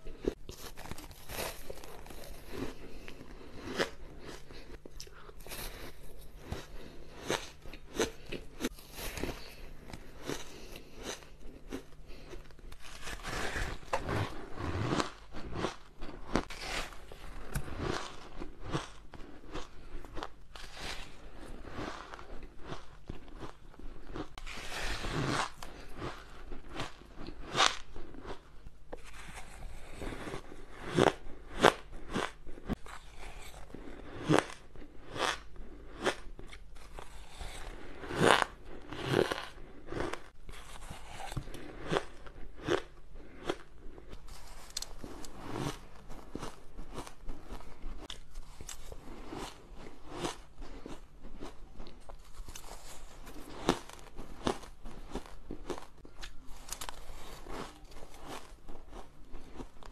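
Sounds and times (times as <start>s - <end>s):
crunching and chewing ice: 0.0s - 59.9s.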